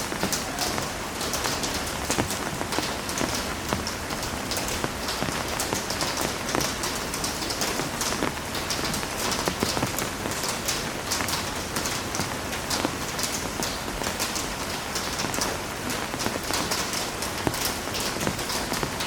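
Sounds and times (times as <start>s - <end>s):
heavy rain on hard surface: 0.0s - 19.0s.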